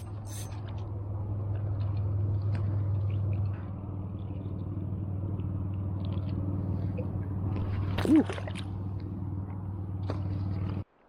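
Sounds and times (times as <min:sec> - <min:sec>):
motor humming: 0:00.0 - 0:10.8.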